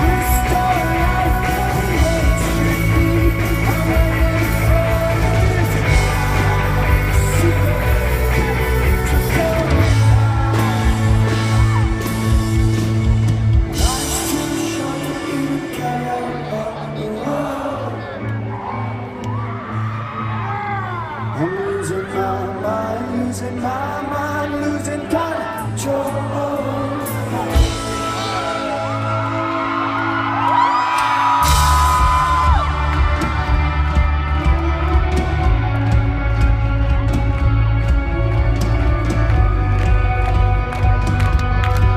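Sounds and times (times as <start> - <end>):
person singing: 0.0 - 18.8, 20.4 - 41.9
rock band playing live: 0.0 - 41.9.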